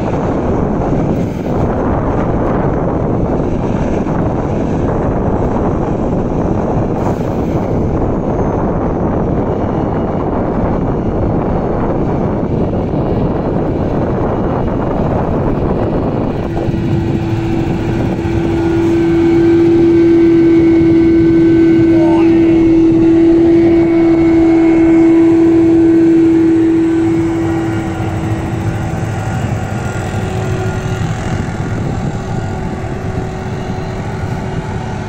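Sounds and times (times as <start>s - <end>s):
harvester and tractor rumbling: 0.0s - 35.0s
high machine whine: 0.0s - 35.0s.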